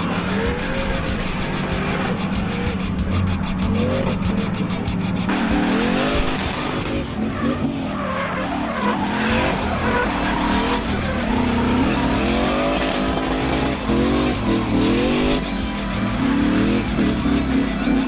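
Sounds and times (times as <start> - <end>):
car engine revving hard: 0.0 - 18.0
tyres screeching: 0.0 - 18.0.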